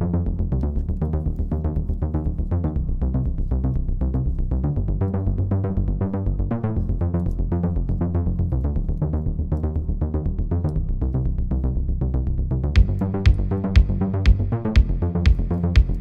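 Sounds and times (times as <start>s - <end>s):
electronic music with synth notes: 0.0s - 16.0s.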